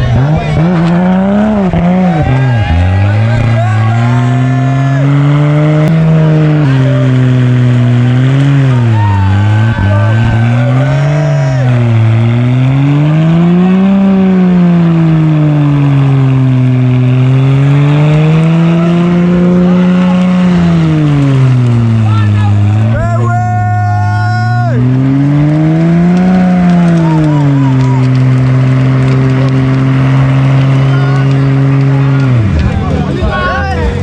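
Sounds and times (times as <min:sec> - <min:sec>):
car engine at high revs: 0:00.0 - 0:34.0.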